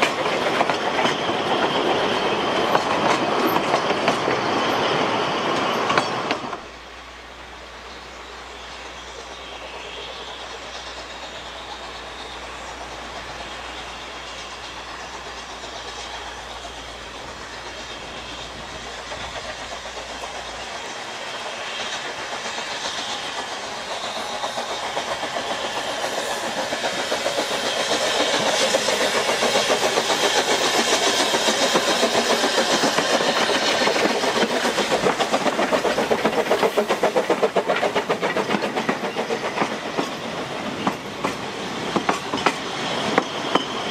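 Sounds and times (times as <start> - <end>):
steam locomotive beats: 0.0 - 43.9
train running gear: 0.0 - 43.9.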